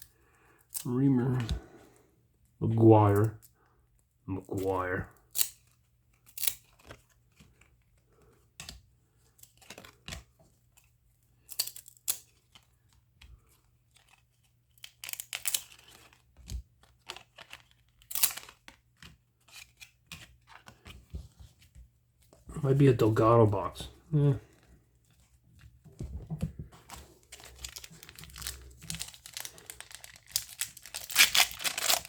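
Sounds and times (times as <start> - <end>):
trading card wrappers rustling: 4.4 - 32.0.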